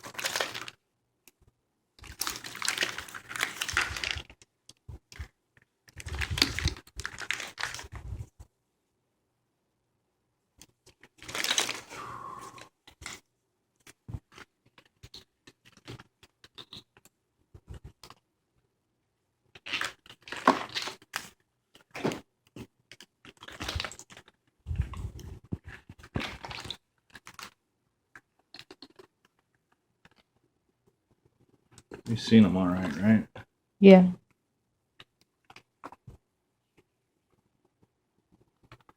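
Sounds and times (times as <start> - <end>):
wiring harness rustling and clicking: 0.0 - 8.4, 10.6 - 18.3, 19.5 - 32.1, 35.0 - 38.9.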